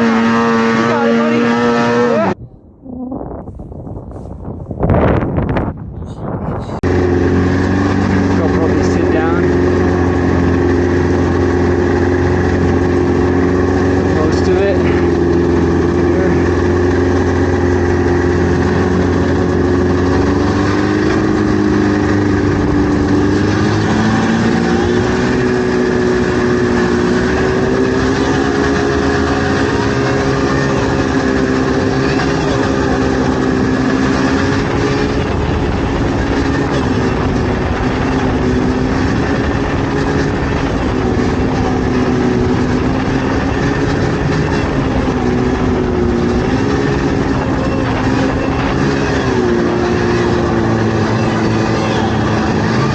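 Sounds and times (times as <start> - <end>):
snowmobile engine running: 0.0 - 52.9.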